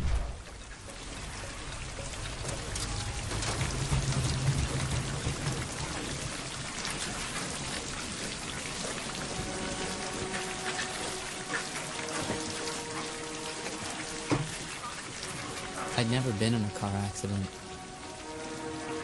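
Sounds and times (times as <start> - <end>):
droning film score: 0.0 - 19.0
rain pattering on a car: 0.4 - 19.0.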